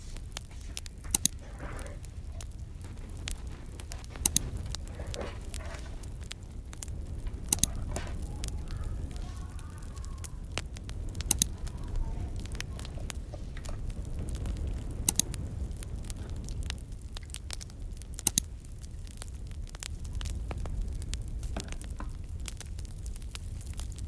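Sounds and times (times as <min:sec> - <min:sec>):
low steady rumble: 0:00.0 - 0:24.0
sharp pops of fire: 0:00.0 - 0:24.0
wood fire crackling: 0:00.0 - 0:24.0.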